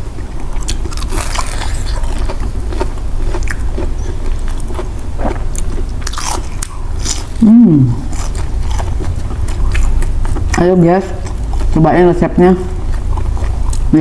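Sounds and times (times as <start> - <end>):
low hum: 0.0 - 14.0
people chewing crunchy food: 0.0 - 14.0.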